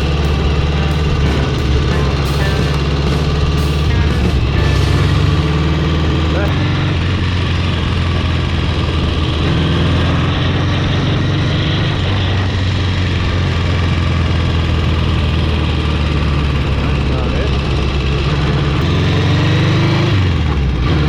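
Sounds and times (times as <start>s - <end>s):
motorcycle engine droning: 0.0s - 21.0s.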